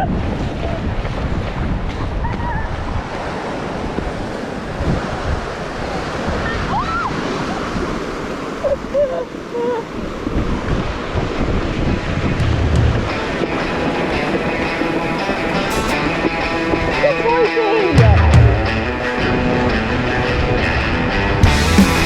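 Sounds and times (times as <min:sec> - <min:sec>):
surf breaking on a beach: 0:00.0 - 0:18.0
wind buffeting the microphone: 0:00.0 - 0:18.0.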